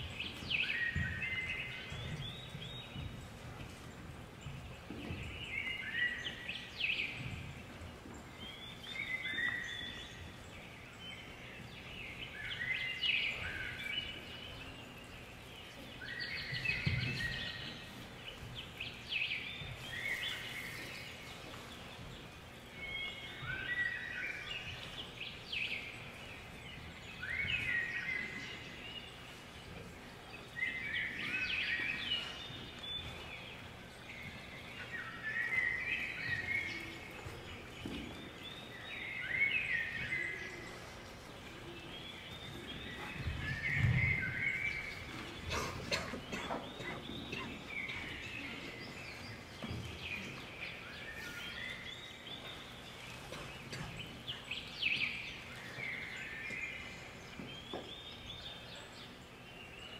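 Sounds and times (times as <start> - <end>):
birds chirping: 0.0 - 59.9
steady background hiss: 0.0 - 59.9.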